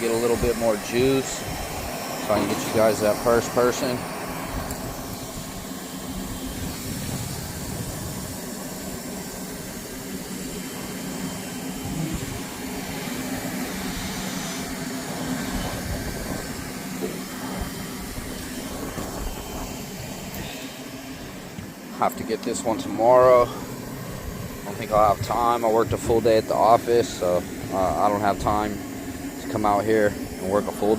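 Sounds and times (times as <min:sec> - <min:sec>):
mechanical drone humming: 0:00.0 - 0:30.9.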